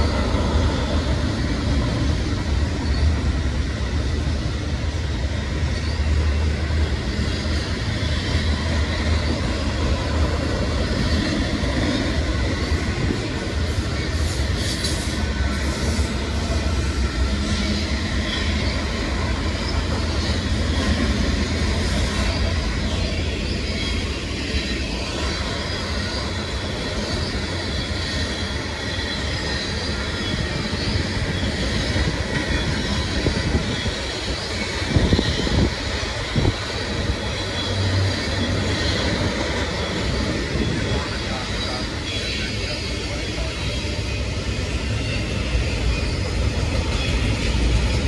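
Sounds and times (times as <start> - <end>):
wheel squeal: 0.0 - 4.1, 5.3 - 10.1, 10.7 - 48.0
freight train rumbling past: 0.0 - 48.0.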